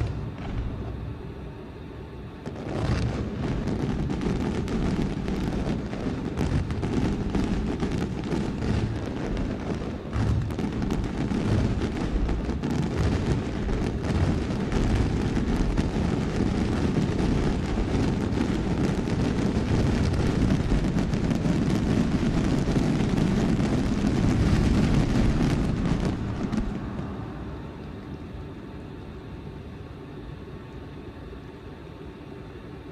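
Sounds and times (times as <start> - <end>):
fireworks bursting and crackling: 0.0 - 1.2, 2.4 - 27.9.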